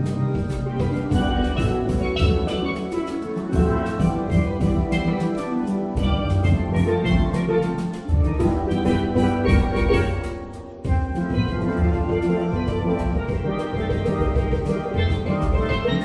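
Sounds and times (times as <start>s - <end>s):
steel pans playing melody: 0.0s - 16.0s.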